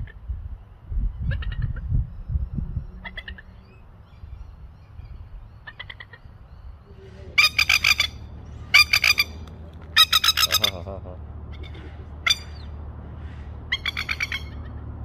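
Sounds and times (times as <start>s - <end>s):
bird sharp stuttering calls: 1.2s - 10.9s, 11.5s - 14.8s.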